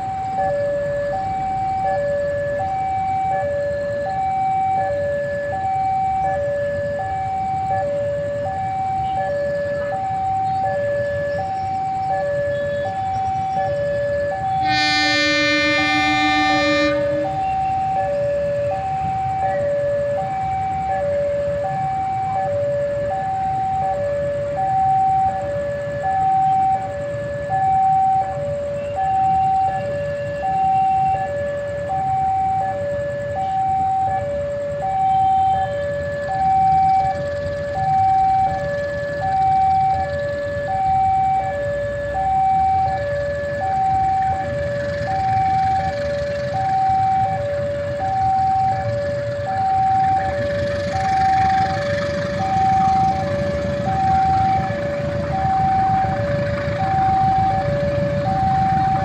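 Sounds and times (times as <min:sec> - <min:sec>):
level-crossing two-tone alarm: 0:00.0 - 0:59.0.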